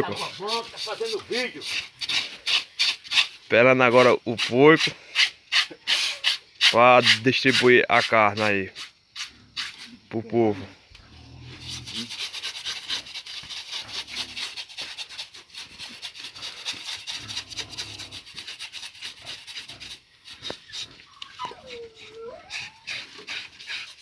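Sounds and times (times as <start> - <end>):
scraping bristles off hide: 0.0 - 10.0, 11.3 - 24.0.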